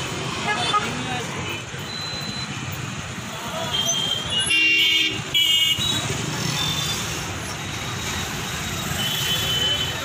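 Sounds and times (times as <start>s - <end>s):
street traffic rumbling: 0.0s - 10.0s.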